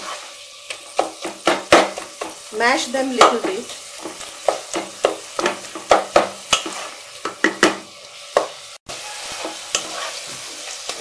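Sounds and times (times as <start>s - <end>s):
frying sizzle: 0.0s - 11.0s
utensil scraping frying pan: 0.0s - 11.0s.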